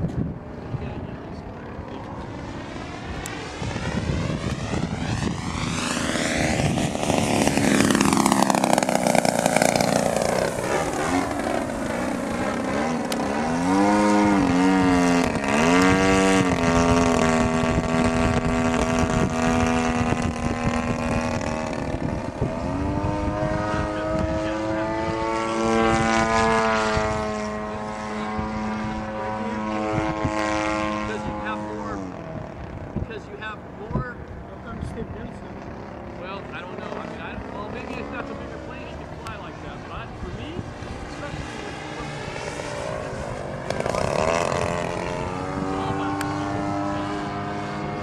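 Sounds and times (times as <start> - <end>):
model airplane engine: 0.0 - 48.0
plane passing whoosh: 0.0 - 48.0.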